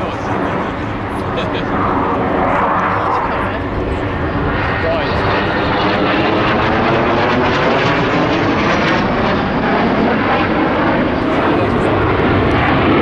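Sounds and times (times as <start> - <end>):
jet engine noise: 0.0 - 13.0.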